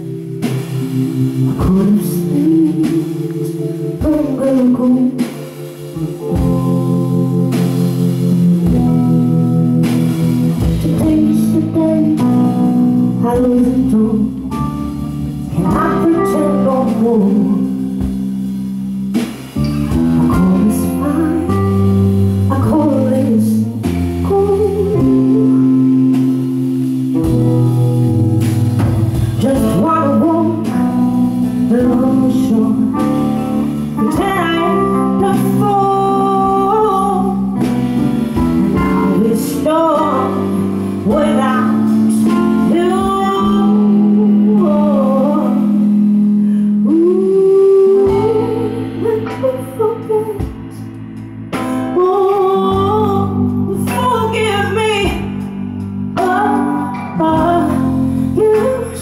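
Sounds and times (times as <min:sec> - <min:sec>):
woman singing soul song: 0:00.0 - 0:18.3, 0:19.9 - 0:27.6, 0:29.2 - 0:59.0
electric guitar: 0:00.0 - 0:59.0
low held chords: 0:00.0 - 0:59.0.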